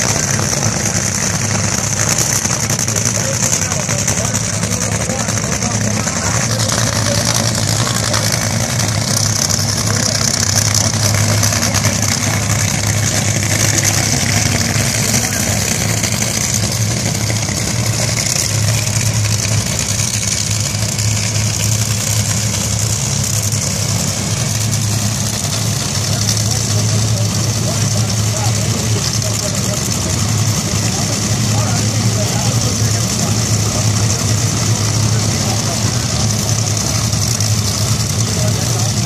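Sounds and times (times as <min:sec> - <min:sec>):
dragster engine idling loudly: 0:00.0 - 0:39.0.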